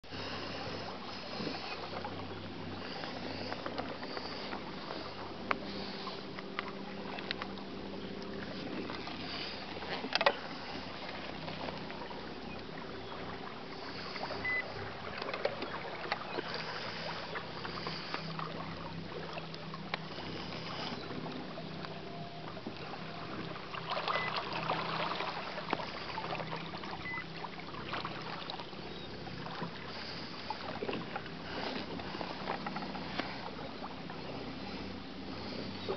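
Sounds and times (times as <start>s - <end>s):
water and hull noise: 0.0s - 35.9s.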